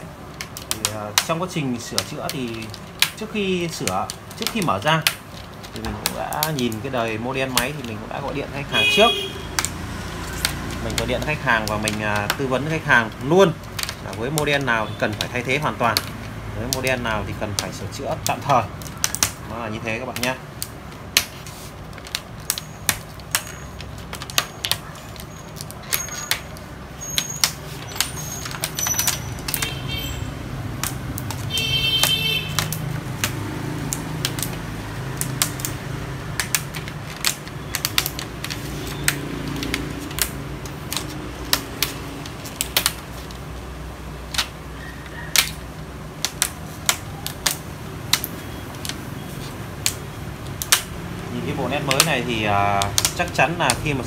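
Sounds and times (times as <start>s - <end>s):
plastic sheet clicking and crackling: 0.0s - 54.0s.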